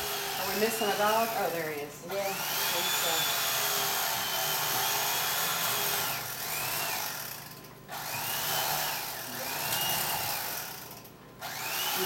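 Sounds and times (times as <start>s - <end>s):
electric carving knife whine: 0.0s - 1.6s, 2.2s - 12.0s.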